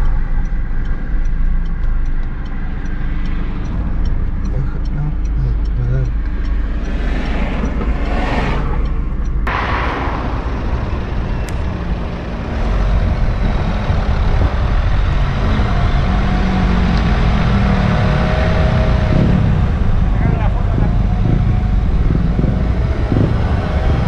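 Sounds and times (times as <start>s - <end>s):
road traffic rumble: 0.0s - 24.0s
vehicle passing: 2.4s - 24.0s.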